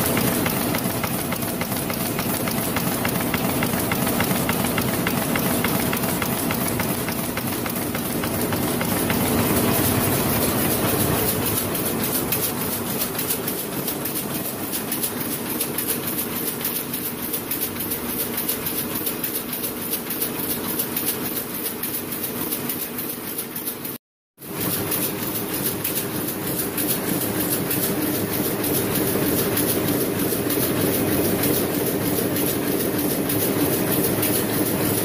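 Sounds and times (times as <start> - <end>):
printing press clattering: 0.0 - 35.0.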